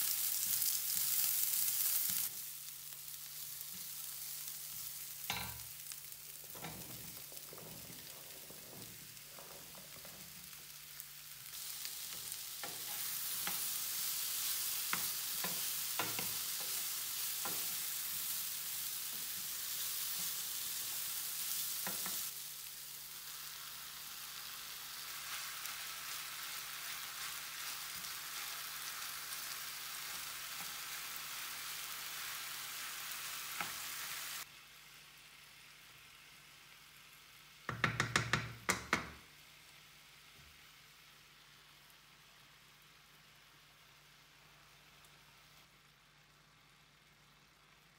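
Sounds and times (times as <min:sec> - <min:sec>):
vegetables sizzling in a frying pan: 0:00.0 - 0:47.9.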